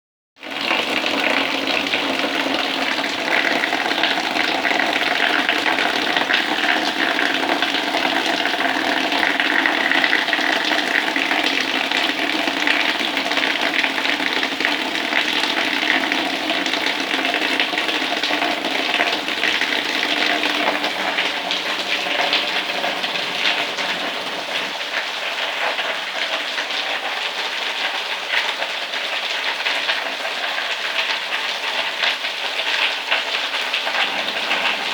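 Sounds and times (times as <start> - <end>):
rain falling: 0.4 - 34.9.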